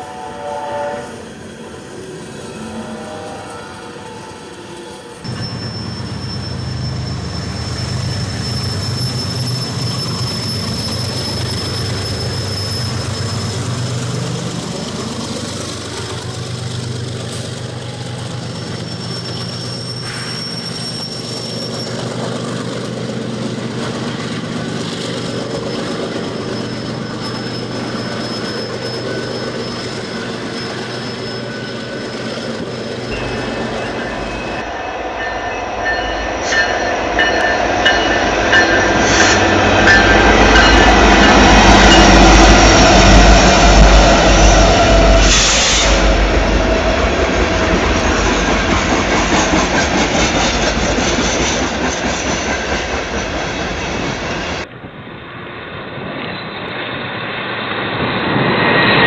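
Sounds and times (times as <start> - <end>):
high wheel squeal: 0.0 - 16.6, 17.3 - 22.8, 24.1 - 54.7
train rumbling past: 0.0 - 59.0.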